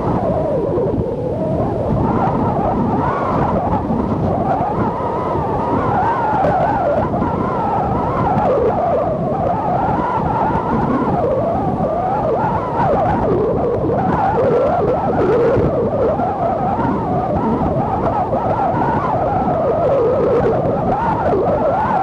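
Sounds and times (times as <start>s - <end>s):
strong wind howling: 0.0s - 22.0s
surf rushing: 0.0s - 22.0s
wavering wind whine: 0.0s - 22.0s
wind buffeting: 0.0s - 22.0s.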